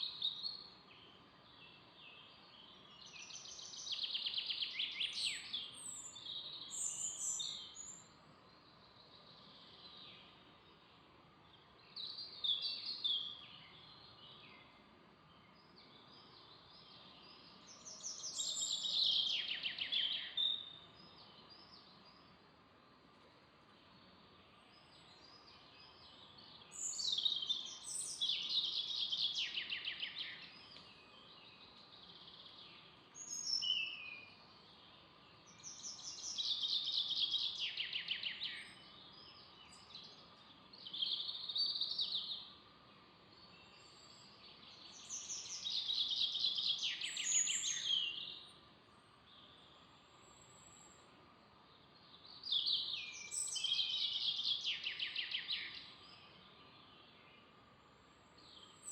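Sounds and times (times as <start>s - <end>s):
songbird singing with trill: 0.0s - 22.4s, 23.8s - 58.9s
faint outdoor background: 0.0s - 58.9s.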